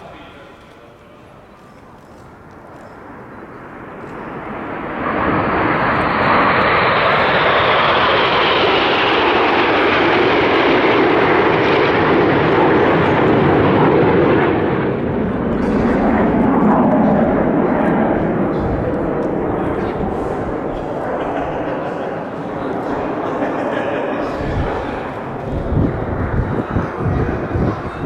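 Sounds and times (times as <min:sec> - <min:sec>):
jets flying past: 0:03.0 - 0:28.0.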